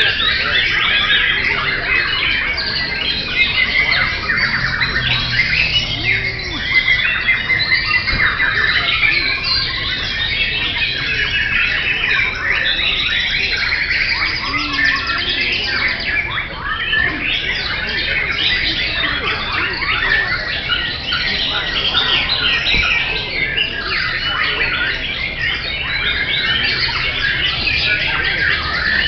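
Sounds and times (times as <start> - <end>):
chorus of birds singing: 0.0 - 29.0.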